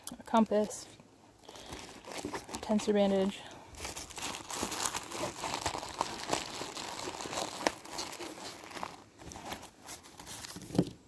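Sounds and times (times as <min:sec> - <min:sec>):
plastic packets crinkling: 0:00.3 - 0:10.7.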